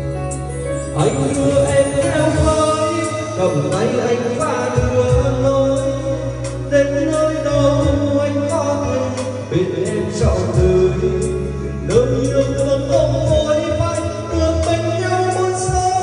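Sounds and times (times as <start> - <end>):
backing track with bass and drums: 0.0 - 16.0
man singing into microphone: 0.0 - 16.0.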